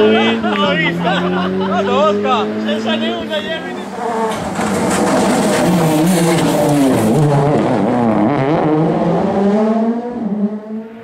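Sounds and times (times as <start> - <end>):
rally car engine revving past: 0.0 - 11.0.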